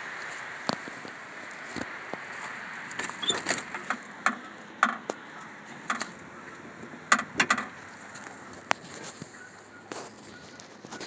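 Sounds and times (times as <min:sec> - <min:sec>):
hand handling noise: 0:00.6 - 0:11.0.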